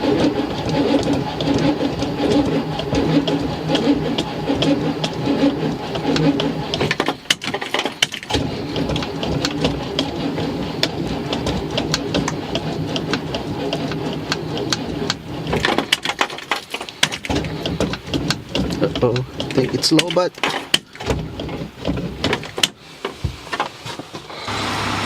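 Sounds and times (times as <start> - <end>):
starter motor cranking engine: 0.0 - 25.0.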